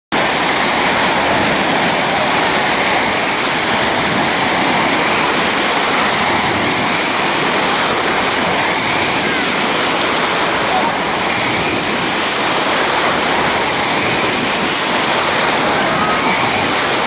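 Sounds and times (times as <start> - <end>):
splashing water rushing: 0.1 - 17.0.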